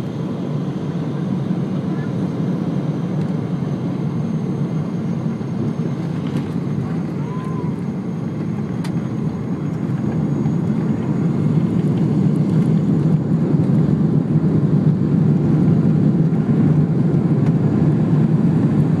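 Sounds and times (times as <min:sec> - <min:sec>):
jet engines in reverse thrust: 0:00.0 - 0:19.0.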